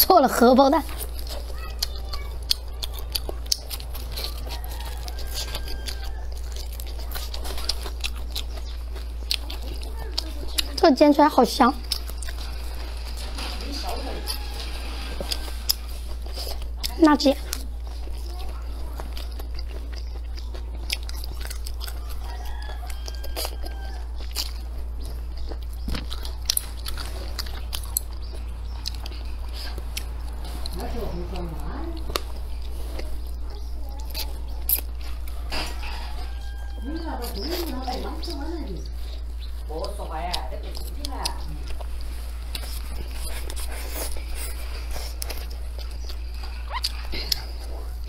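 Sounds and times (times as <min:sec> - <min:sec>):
close chewing with mouth clicks: 0:00.0 - 0:48.0
steady low hum: 0:00.0 - 0:48.0.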